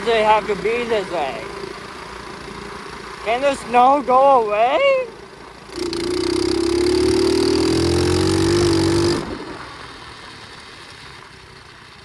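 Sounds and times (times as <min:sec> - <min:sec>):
motorbike engine revving: 0:00.0 - 0:10.1.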